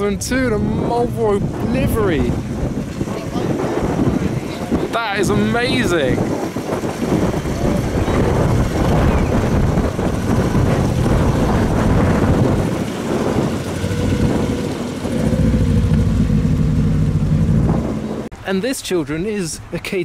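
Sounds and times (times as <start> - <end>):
car engine idling: 1.1 - 18.3.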